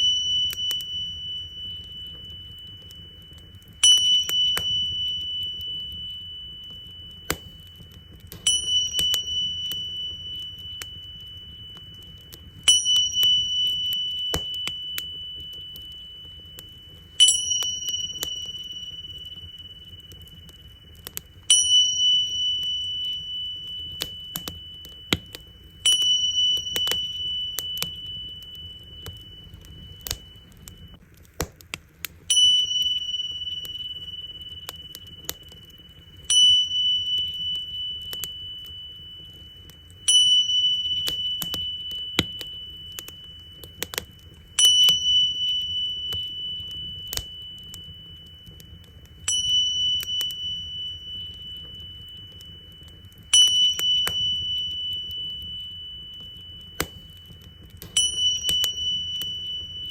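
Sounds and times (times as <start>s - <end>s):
tingsha cymbals ringing: 0.0s - 31.0s, 32.3s - 59.9s
wood fire crackling: 0.0s - 59.9s.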